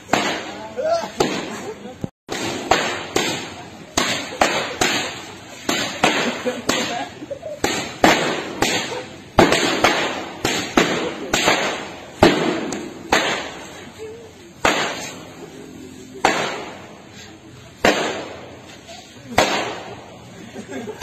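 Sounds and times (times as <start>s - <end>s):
whip cracks: 0.0s - 1.7s, 2.3s - 14.0s, 14.6s - 15.4s, 16.2s - 20.1s.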